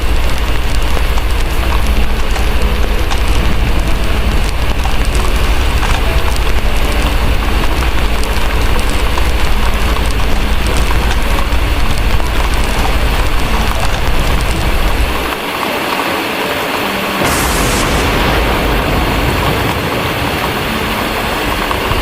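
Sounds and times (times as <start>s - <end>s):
low rumble: 0.0s - 15.4s, 17.2s - 22.0s
heavy rain: 0.0s - 22.0s
wood fire crackling: 0.0s - 22.0s.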